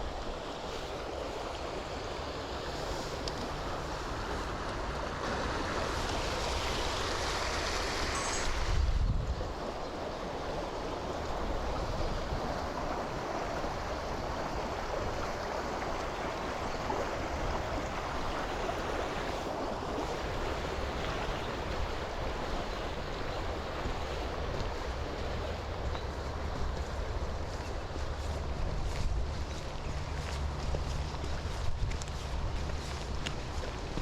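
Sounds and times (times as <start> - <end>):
river rushing: 0.0 - 34.0
wind rumble on microphone: 0.0 - 34.0.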